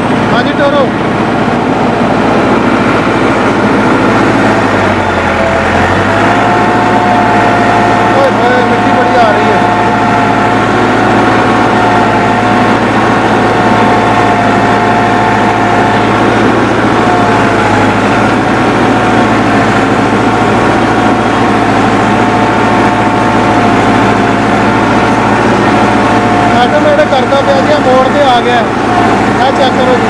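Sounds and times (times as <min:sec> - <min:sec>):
steady whine: 0:00.0 - 0:30.0
tractor diesel engine running: 0:00.0 - 0:30.0.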